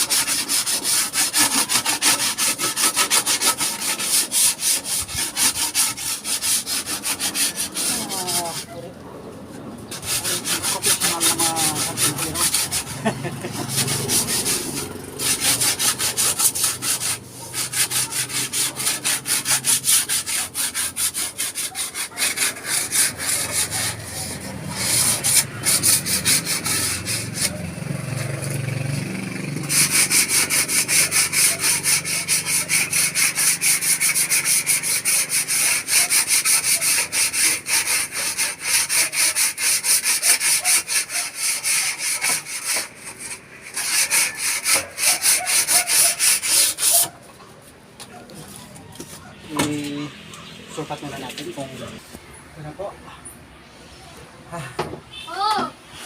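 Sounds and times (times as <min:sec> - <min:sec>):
hand saw cutting wood: 0:00.0 - 0:08.8, 0:09.9 - 0:47.3.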